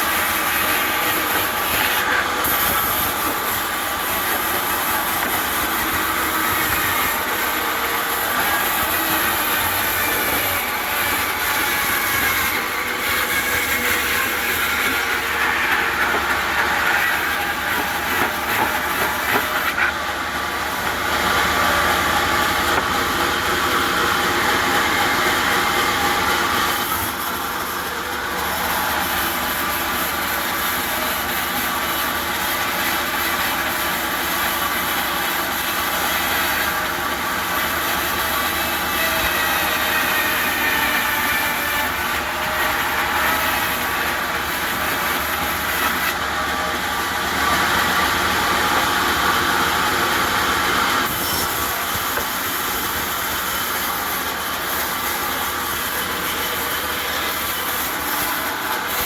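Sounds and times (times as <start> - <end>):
saw cutting log with whine: 0.0 - 59.0.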